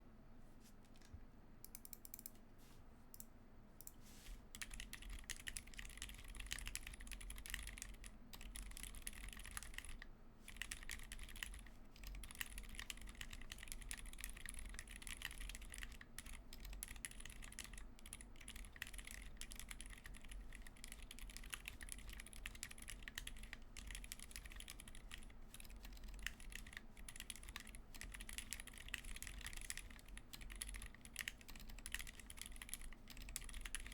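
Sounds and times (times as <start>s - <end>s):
mechanical keyboard typing: 1.6s - 2.3s, 4.5s - 33.9s.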